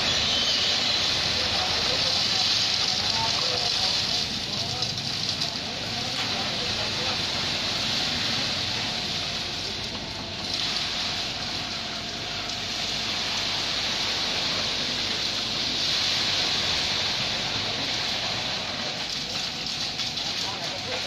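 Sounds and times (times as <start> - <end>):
concrete pump truck running: 0.0 - 21.0.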